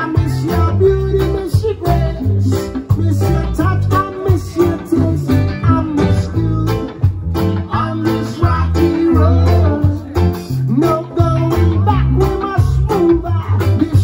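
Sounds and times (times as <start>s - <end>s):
guitar: 0.0s - 14.0s
heavy bass line: 0.0s - 14.0s
live band playing: 0.0s - 14.0s.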